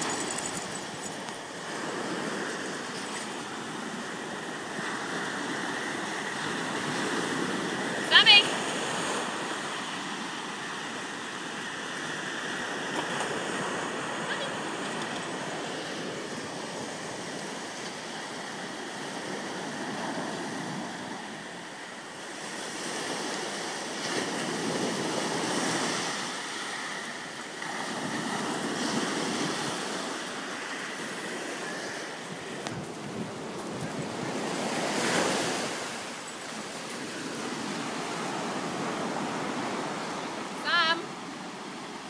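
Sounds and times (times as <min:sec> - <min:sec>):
waves washing up pebble beach: 0:00.0 - 0:21.1, 0:22.4 - 0:40.8.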